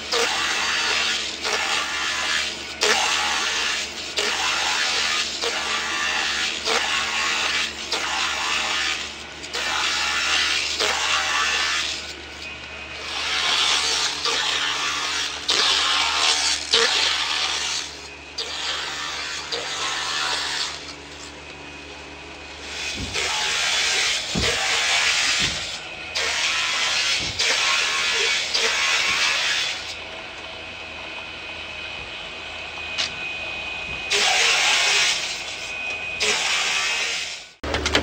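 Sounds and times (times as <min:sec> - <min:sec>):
machine humming: 0:00.0 - 0:38.0
saw cutting wooden boards: 0:00.0 - 0:38.0.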